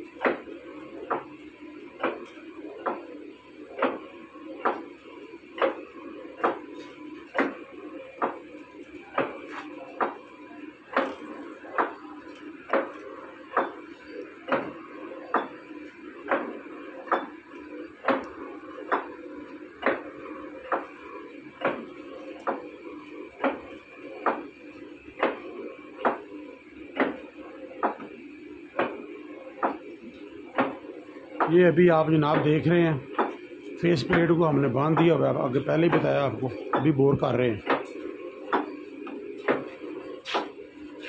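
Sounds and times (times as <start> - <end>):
lathe machine hum: 0.0 - 41.0.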